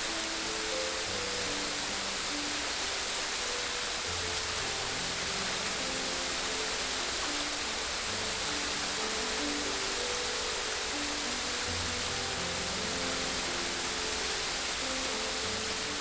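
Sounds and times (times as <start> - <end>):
rushing stream water: 0.0 - 16.0.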